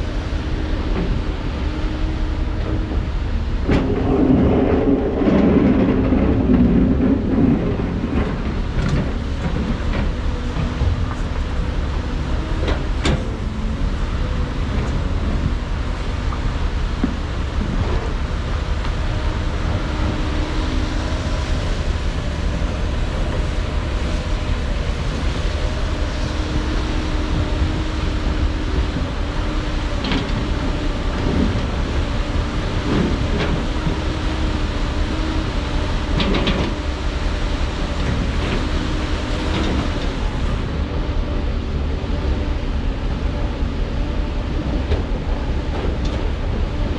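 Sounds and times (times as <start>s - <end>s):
heavy machinery diesel engine: 0.0s - 46.9s.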